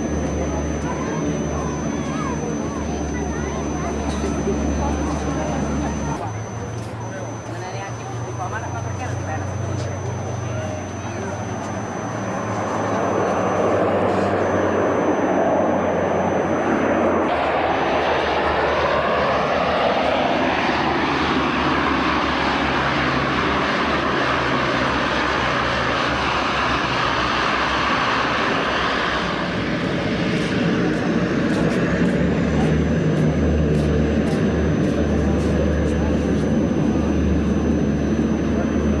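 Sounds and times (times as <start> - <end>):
turboprop aircraft flying past: 0.0 - 39.0.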